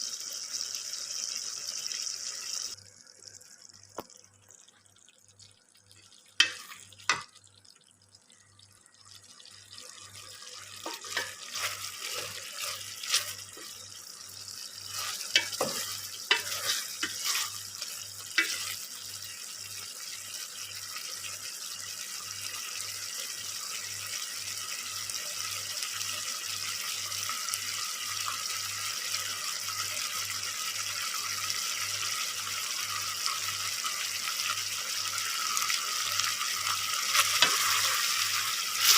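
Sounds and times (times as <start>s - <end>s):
food sizzling in oil: 0.0s - 38.9s.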